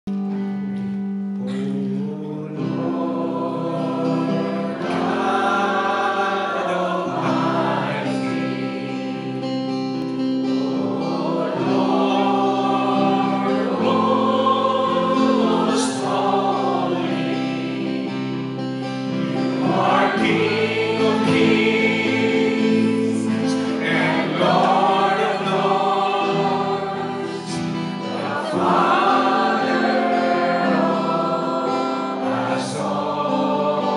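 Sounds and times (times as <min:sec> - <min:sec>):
congregation singing: 0:00.1 - 0:33.9
guitar accompaniment: 0:00.1 - 0:33.9
singer on microphone: 0:01.4 - 0:09.9, 0:10.5 - 0:18.5, 0:19.4 - 0:33.9.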